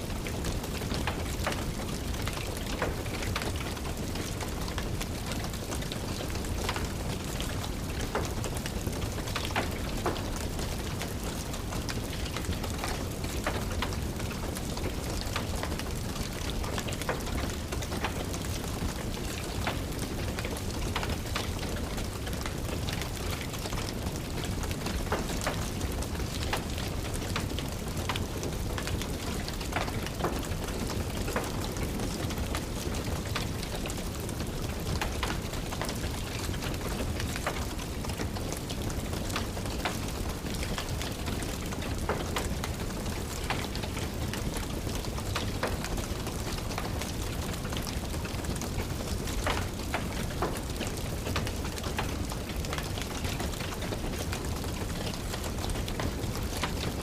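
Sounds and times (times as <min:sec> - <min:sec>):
steady rain: 0:00.0 - 0:57.0
wood fire crackling: 0:00.1 - 0:57.0.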